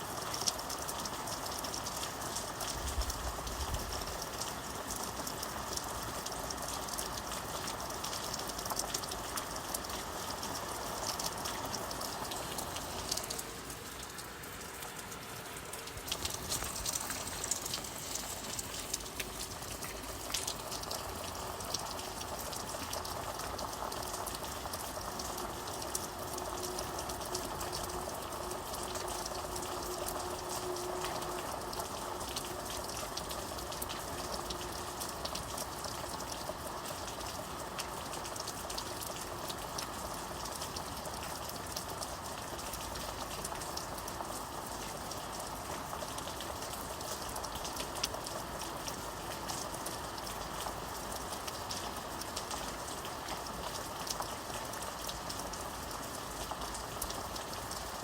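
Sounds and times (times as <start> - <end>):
steady rain with ticking drops: 0.0 - 58.0.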